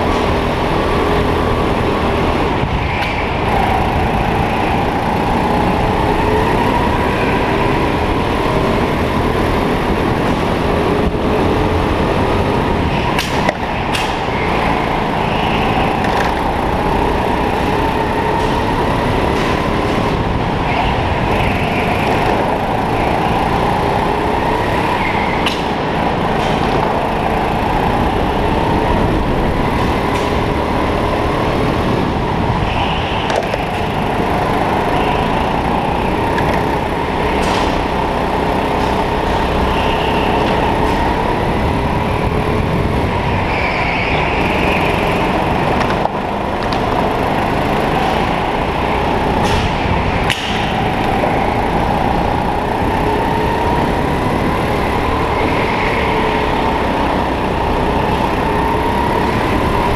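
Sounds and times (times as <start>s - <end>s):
kart motor running: 0.0s - 59.9s.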